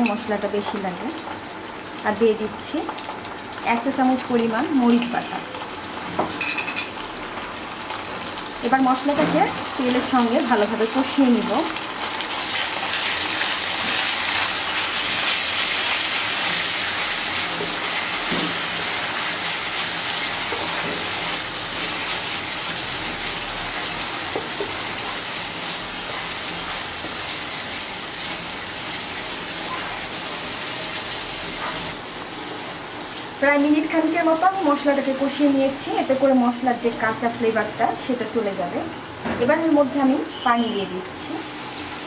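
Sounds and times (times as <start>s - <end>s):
onions sizzling in hot oil: 0.0s - 42.0s.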